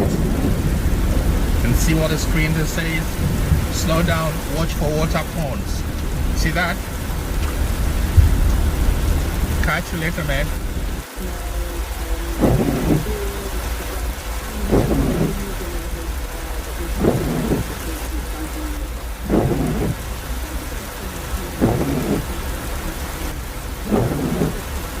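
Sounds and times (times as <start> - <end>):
car rumbling on wet road: 0.0 - 25.0
heavy rain on a car: 0.0 - 25.0
windscreen wipers sweeping: 0.0 - 25.0.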